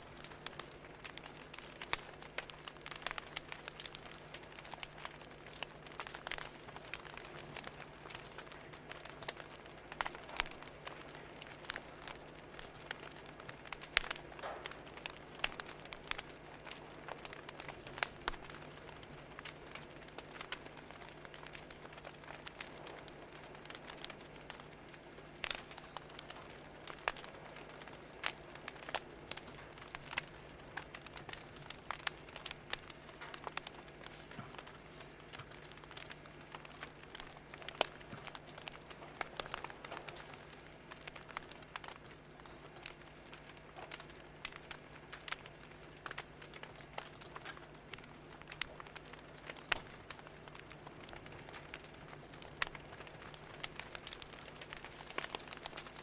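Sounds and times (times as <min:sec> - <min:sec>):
fire crackling and popping: 0:00.0 - 0:56.0
soft steady hiss: 0:00.0 - 0:56.0.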